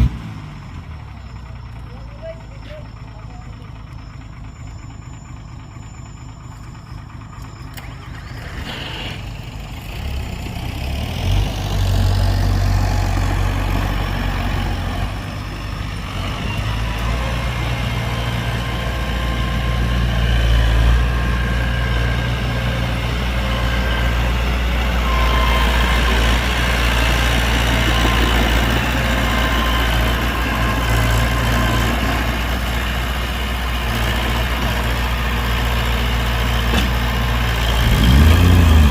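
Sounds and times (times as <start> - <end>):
heavy diesel engine humming: 0.0 - 38.9.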